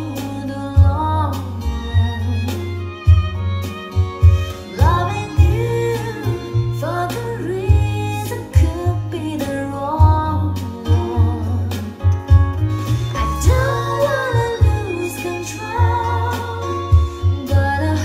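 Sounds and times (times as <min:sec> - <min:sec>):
song over speakers: 0:00.0 - 0:18.0.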